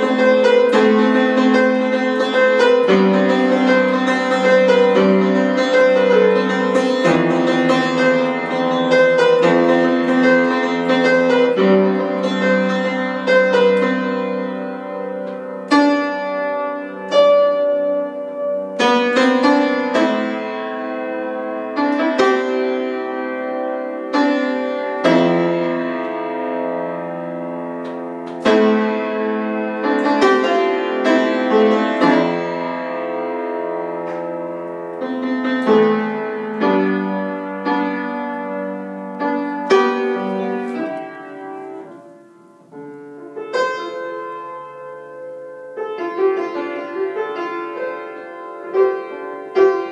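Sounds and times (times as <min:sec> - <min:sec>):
solo piano improvisation: 0:00.0 - 0:49.9.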